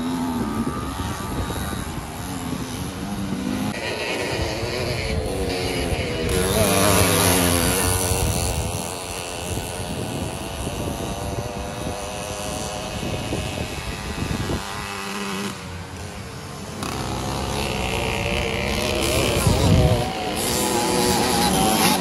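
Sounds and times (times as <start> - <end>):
two-stroke engines racing: 0.0 - 22.0.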